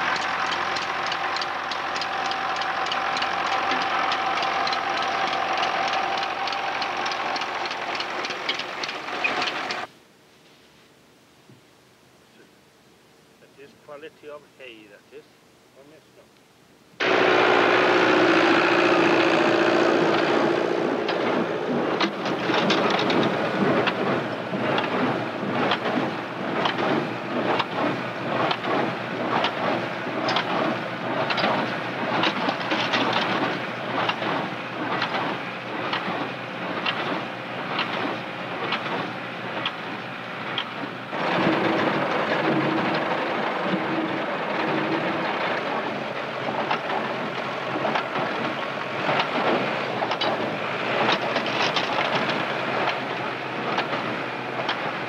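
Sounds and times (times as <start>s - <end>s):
hay baler knocking rhythmically: 0.0s - 9.9s, 17.0s - 55.0s
tractor engine running: 0.0s - 9.9s, 17.0s - 55.0s.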